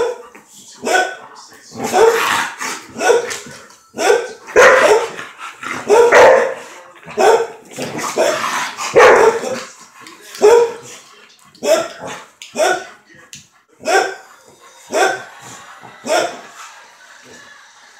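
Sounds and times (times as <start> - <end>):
dogs barking: 0.0 - 1.2, 1.8 - 9.8, 10.4 - 13.0, 13.8 - 16.6.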